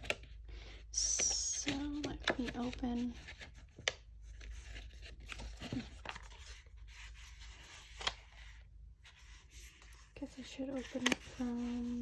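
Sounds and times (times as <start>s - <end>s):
paper packaging rustling: 1.6s - 12.0s.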